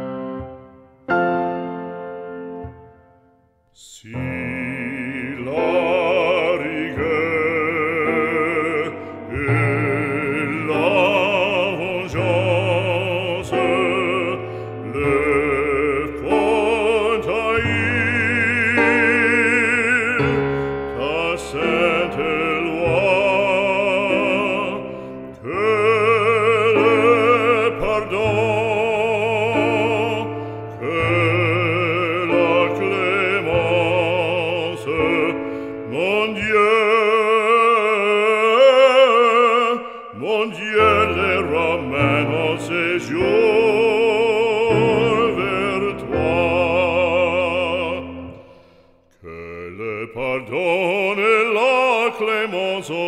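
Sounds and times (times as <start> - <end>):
instrumental accompaniment: 0.0 - 48.9
operatic singing with vibrato: 3.7 - 53.0.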